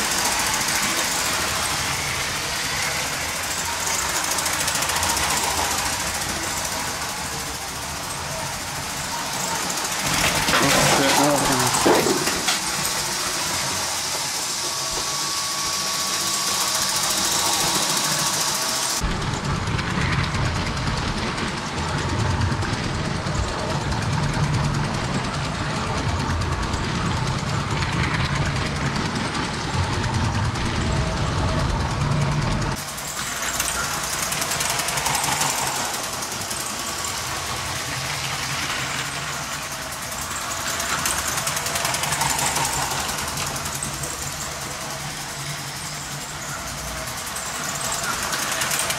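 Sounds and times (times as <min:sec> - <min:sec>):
diesel locomotive engine running: 0:00.0 - 0:48.9.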